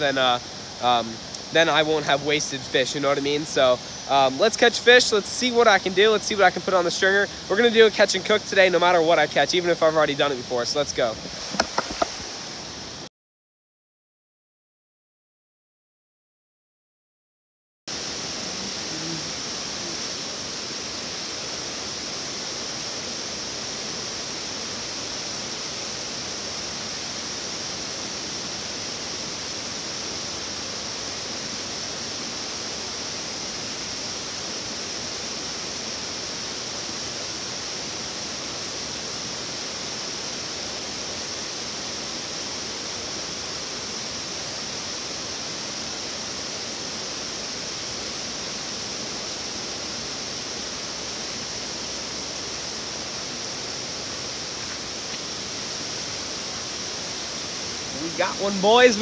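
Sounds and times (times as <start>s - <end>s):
water rushing over dam spillway: 0.0s - 13.0s, 17.9s - 59.0s.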